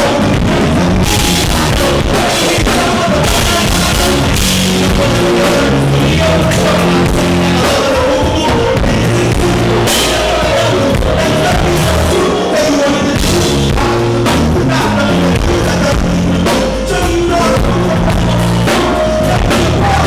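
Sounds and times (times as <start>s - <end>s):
drum kit: 0.0s - 20.0s
live band playing: 0.0s - 20.0s
stepping bass line: 0.0s - 20.0s.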